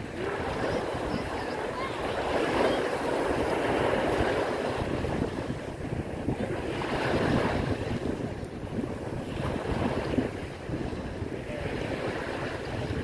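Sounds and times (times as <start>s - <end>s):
waves washing over pebbles: 0.0s - 13.0s
wind buffeting microphone: 0.0s - 13.0s.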